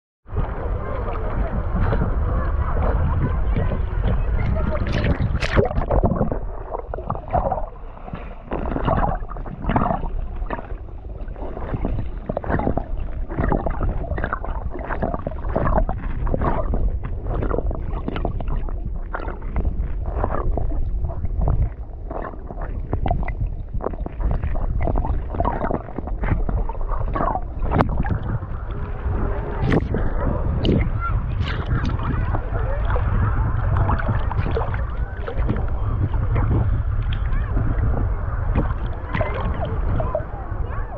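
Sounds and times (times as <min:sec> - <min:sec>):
underwater sloshing and gurgling: 0:00.3 - 0:40.9.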